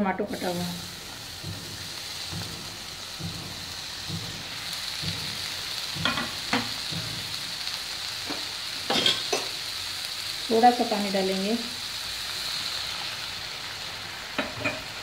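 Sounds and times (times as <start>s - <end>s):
tomatoes sizzling in a frying pan: 0.0s - 15.0s.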